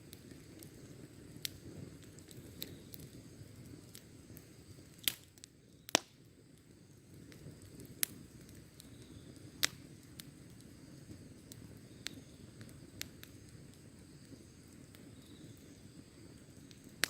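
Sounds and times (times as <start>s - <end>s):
burning wood popping: 0.0s - 17.0s
flames rustling: 0.0s - 17.0s.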